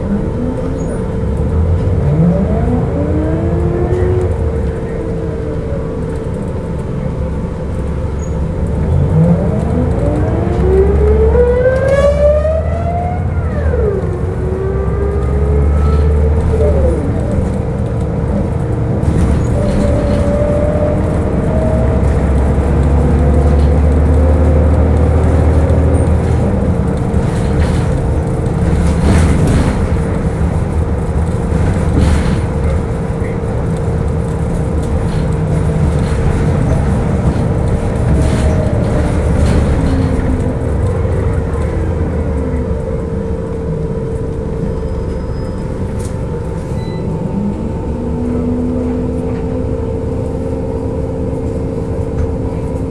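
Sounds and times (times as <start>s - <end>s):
bus engine rumbling: 0.0s - 52.9s.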